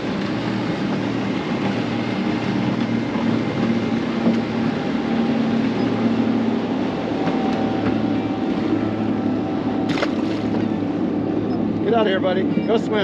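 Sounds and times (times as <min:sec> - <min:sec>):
boat motor hum: 0:00.0 - 0:13.0
wind and water noise: 0:00.0 - 0:13.0.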